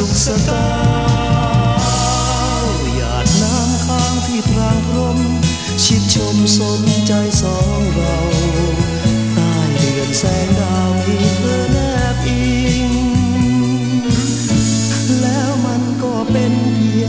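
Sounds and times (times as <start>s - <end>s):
pop song from vinyl record: 0.0s - 17.0s.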